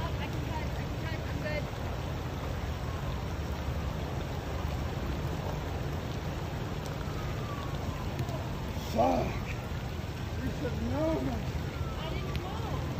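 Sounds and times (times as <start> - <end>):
floodwater rushing: 0.0 - 12.9.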